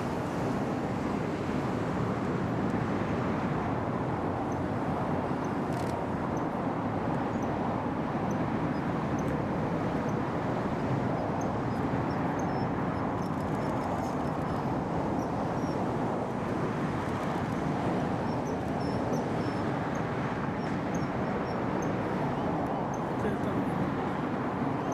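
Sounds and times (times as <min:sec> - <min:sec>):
rushing background noise: 0:00.0 - 0:24.9.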